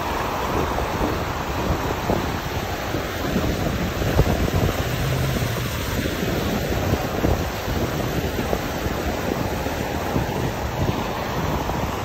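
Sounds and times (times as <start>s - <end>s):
river water splashing on rocks: 0.0s - 12.0s
wind buffeting microphone: 0.0s - 12.0s.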